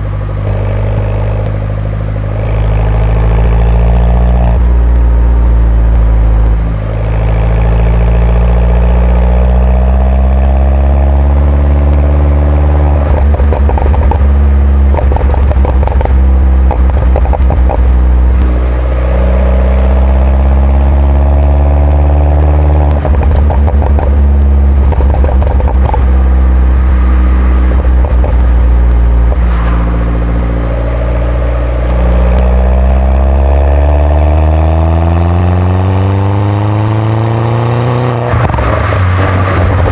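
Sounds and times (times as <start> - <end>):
car engine accelerating: 0.0 - 39.9
exhaust crackling: 0.0 - 39.9.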